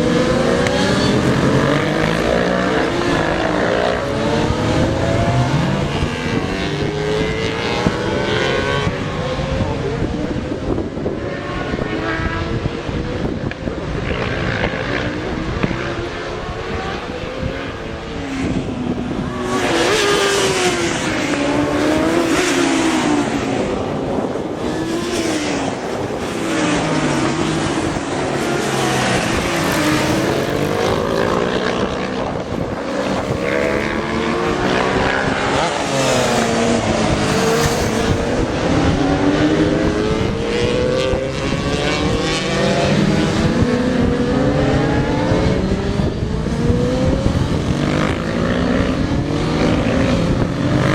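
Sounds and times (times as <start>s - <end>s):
low gusty wind rumble: 0.0s - 50.9s
racing motorcycle engines revving: 0.0s - 50.9s.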